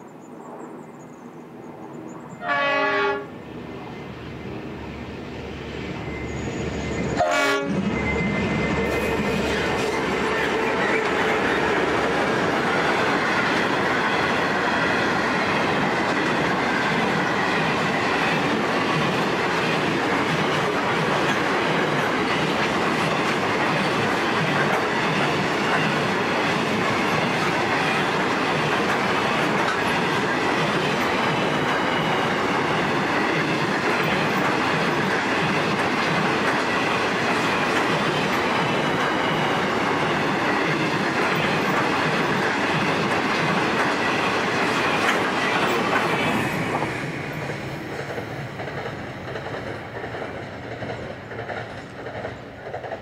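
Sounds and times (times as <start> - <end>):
freight train wheels rumbling on rails: 2.3 - 53.0.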